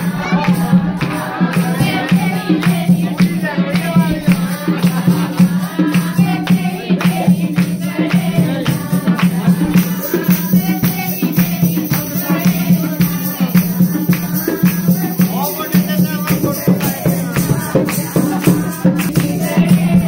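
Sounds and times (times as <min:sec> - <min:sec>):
hand claps and percussion: 0:00.0 - 0:20.0
people singing: 0:00.0 - 0:20.0.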